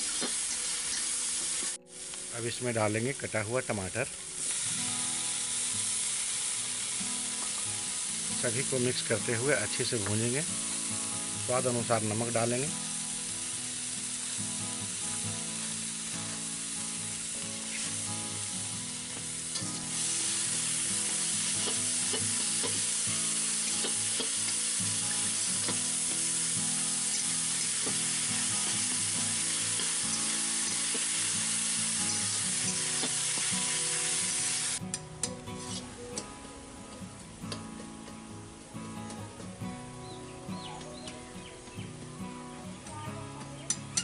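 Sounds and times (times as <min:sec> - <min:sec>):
masala sizzling in oil: 0:00.0 - 0:42.0.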